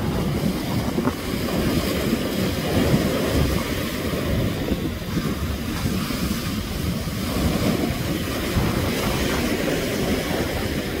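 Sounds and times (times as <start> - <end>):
surf breaking against rocks: 0.0 - 11.0
wind buffeting microphone: 0.0 - 11.0.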